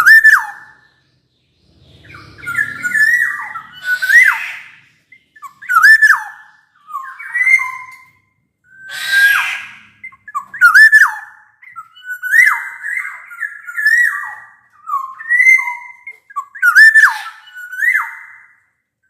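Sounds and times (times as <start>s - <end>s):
bird singing fluty whistles: 0.0s - 18.6s.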